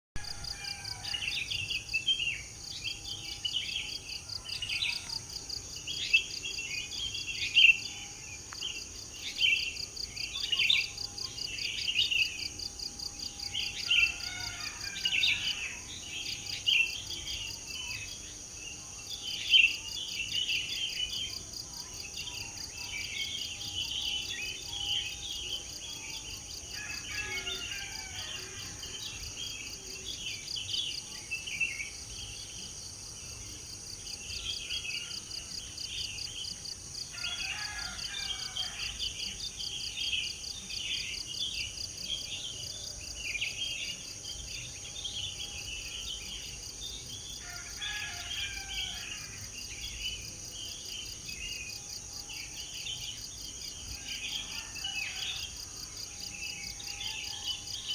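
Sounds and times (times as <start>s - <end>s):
high-pitched insect trill: 0.2s - 57.9s
songbirds chirping and singing: 0.2s - 57.9s.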